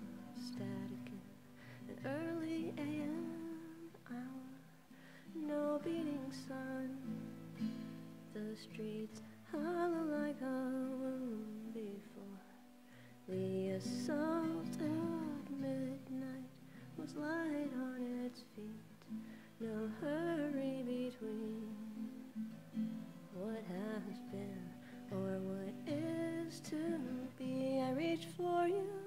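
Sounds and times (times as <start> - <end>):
woman singing: 0.0 - 7.4, 8.2 - 22.4, 23.2 - 29.0
acoustic guitar: 0.0 - 29.0.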